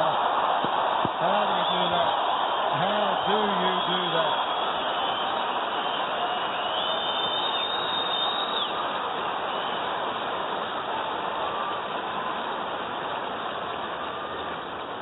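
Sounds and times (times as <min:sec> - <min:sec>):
stadium crowd noise: 0:00.0 - 0:15.0.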